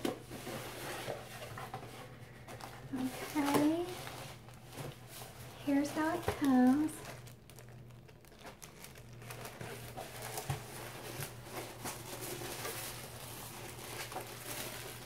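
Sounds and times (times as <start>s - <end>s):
paper packing crinkling: 0.0s - 15.0s.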